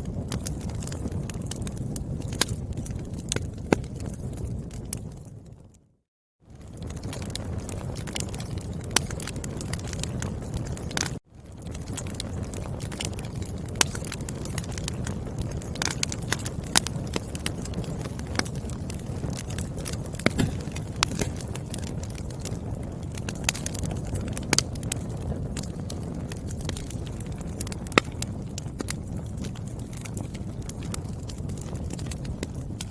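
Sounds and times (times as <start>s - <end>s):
crackles and pops of burning logs: 0.0s - 5.8s, 6.5s - 32.9s
low rumble of flames: 0.0s - 32.9s.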